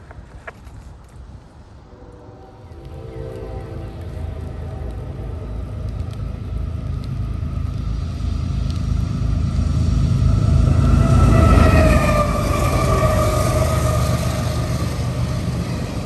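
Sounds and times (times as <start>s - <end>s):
diesel locomotive rumble: 1.8s - 16.0s.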